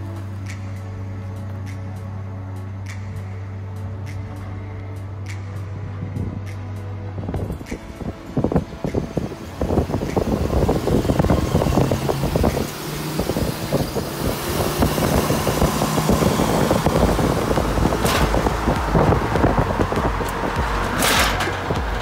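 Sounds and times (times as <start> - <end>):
road rumble with rattling: 0.0 - 22.0
vehicle engine drone: 0.0 - 22.0.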